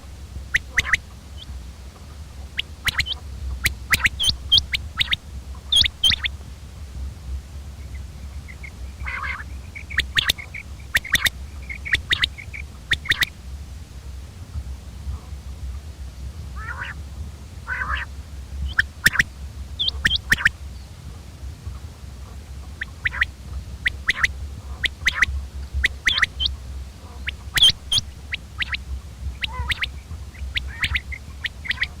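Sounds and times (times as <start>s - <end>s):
quail calling: 0.0s - 6.4s, 7.8s - 14.2s, 16.6s - 17.0s, 17.6s - 20.9s, 21.6s - 32.0s
steady low hum: 0.0s - 32.0s.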